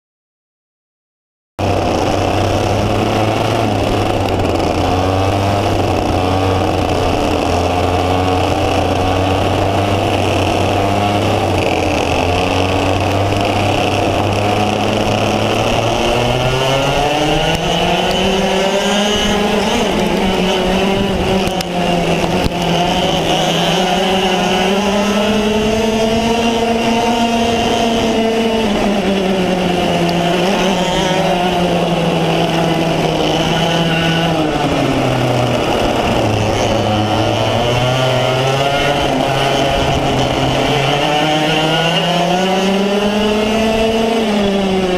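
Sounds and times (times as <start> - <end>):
kart engine: 1.6 - 44.9
other kart engines: 1.6 - 44.9.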